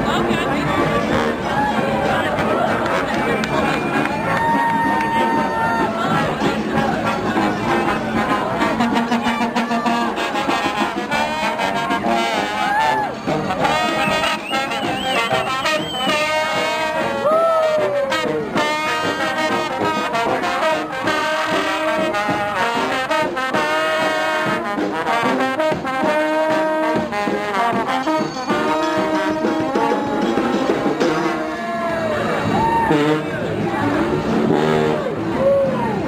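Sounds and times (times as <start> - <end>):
brass band music: 0.0 - 35.4
trombone slides: 5.2 - 35.4.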